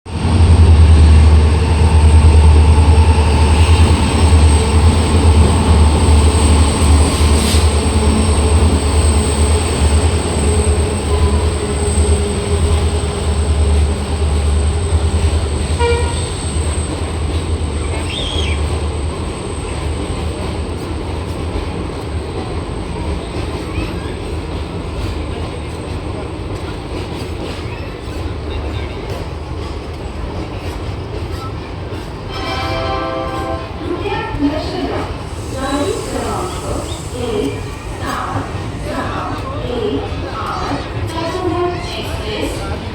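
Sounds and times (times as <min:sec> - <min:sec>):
diesel locomotive engine rumble: 0:00.1 - 0:42.9.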